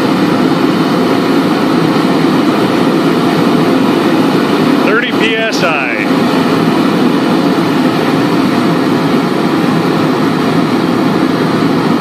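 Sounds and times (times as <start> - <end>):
forge burner roaring: 0.0 - 12.0.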